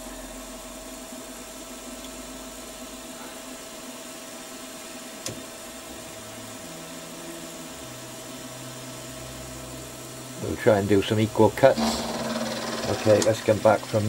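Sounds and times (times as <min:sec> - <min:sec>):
milling machine motor hum: 0:00.0 - 0:14.0.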